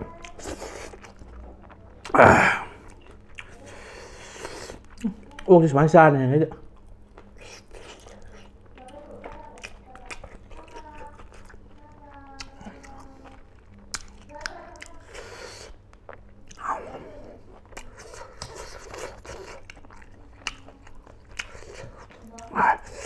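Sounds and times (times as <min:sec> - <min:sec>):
close chewing and biting: 0:00.0 - 0:05.5, 0:06.5 - 0:23.0.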